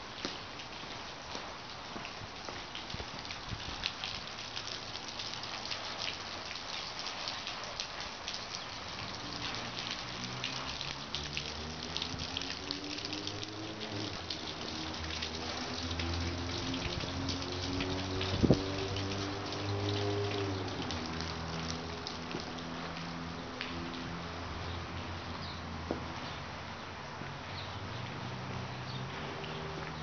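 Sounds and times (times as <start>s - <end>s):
water dripping and splashing: 0.0s - 30.0s
water washing: 0.3s - 30.0s.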